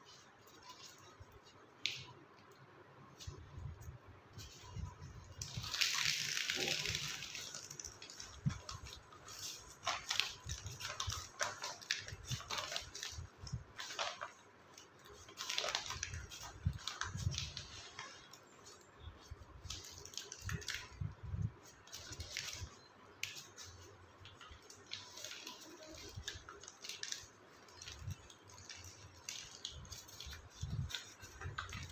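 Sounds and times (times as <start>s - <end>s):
plastic bag rustling and crinkling: 0.0s - 2.1s, 3.1s - 31.9s.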